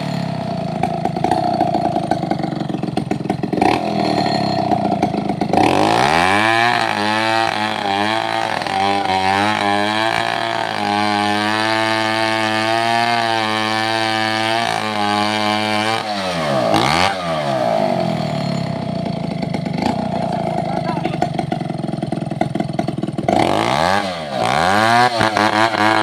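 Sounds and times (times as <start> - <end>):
chainsaw engine revving: 0.0 - 26.0.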